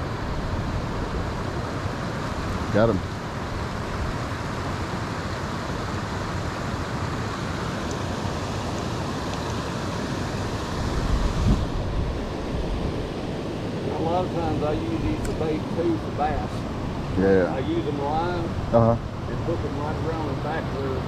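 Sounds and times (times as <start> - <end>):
low wind rumble on microphone: 0.0 - 21.0
steady rushing outdoor noise: 0.0 - 21.0.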